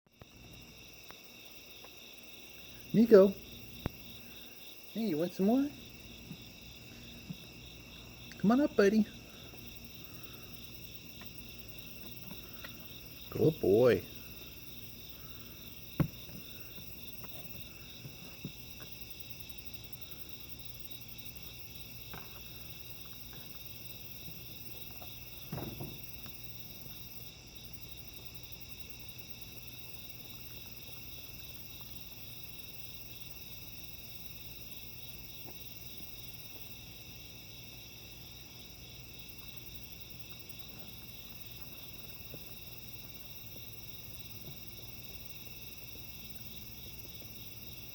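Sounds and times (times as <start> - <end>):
insects chirping: 0.1 - 47.9.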